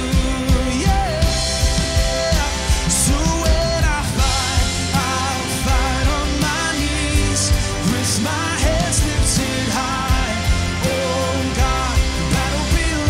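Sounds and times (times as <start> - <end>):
pop-rock band playing: 0.0 - 13.0
voices singing: 0.0 - 13.0.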